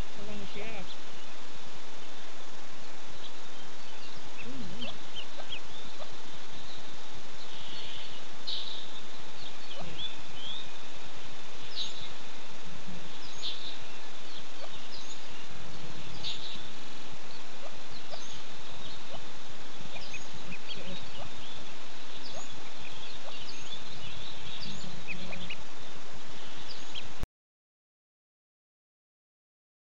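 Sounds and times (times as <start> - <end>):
ducklings peeping: 0.0 - 27.2
steady hiss: 0.0 - 27.2.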